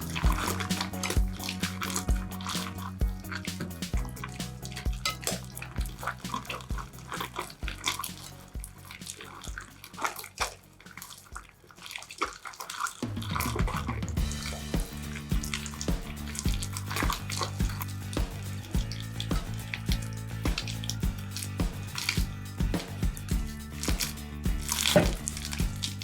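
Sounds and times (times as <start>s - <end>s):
music with steady beat: 0.0s - 11.6s, 13.0s - 26.0s
slime squelching: 0.0s - 26.0s.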